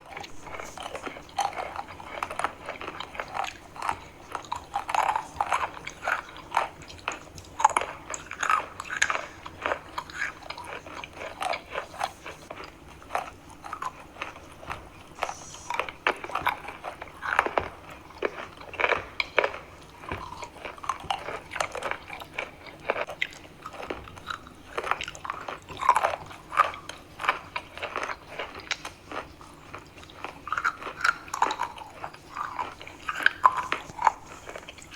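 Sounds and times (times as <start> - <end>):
person chewing chalk: 0.0 - 34.9.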